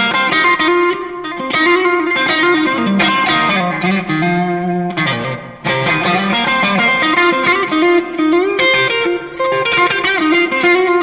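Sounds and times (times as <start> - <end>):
electric guitar lead line: 0.0 - 11.0.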